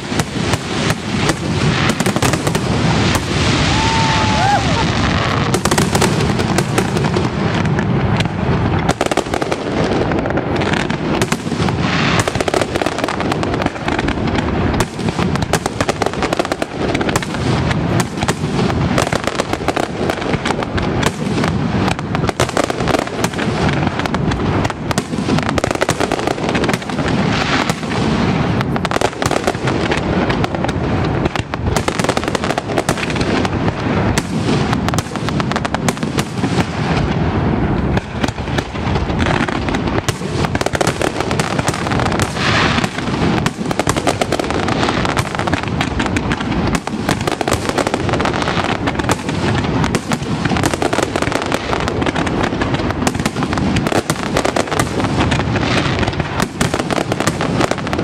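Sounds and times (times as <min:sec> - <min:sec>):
fireworks crackle: 0:00.0 - 0:58.0.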